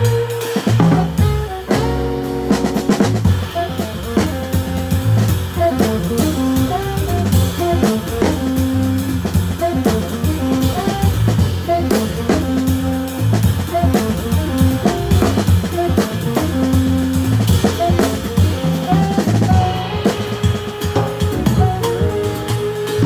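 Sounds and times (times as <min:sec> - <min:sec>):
alto saxophone melody: 0:00.0 - 0:23.0
double bass line: 0:00.0 - 0:23.0
drum kit with ringing cymbals: 0:00.0 - 0:23.0.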